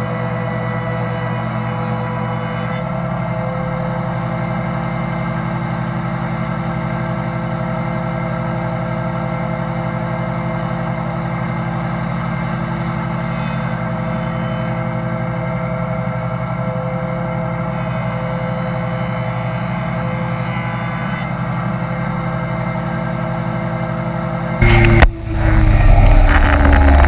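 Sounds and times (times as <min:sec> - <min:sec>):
woodworking machine humming: 0:00.0 - 0:27.0.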